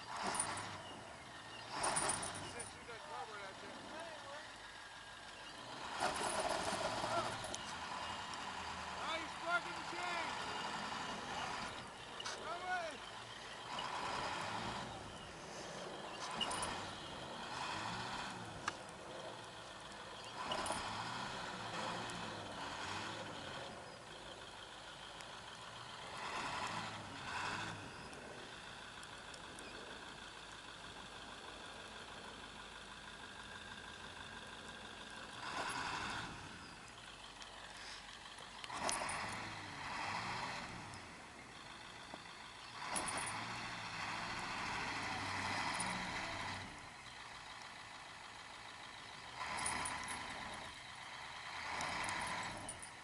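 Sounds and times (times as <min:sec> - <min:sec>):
truck engine revving: 0:00.0 - 0:53.0
wheels spinning in snow: 0:00.0 - 0:53.0.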